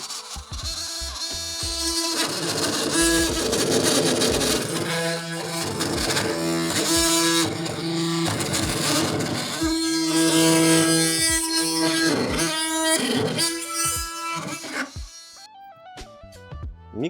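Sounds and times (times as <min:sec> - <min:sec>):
blade rasping hiss: 0:00.0 - 0:15.5
multi-tool buzzing cutting wood: 0:00.0 - 0:15.5.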